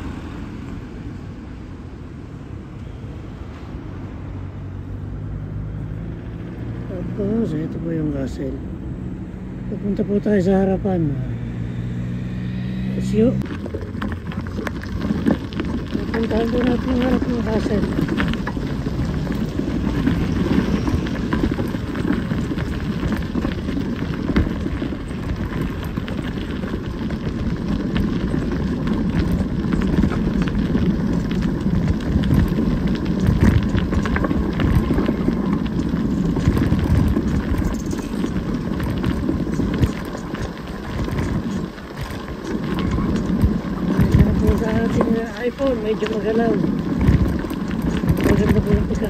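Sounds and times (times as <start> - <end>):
bicycle tyres rolling on gravel: 3.1 - 49.0.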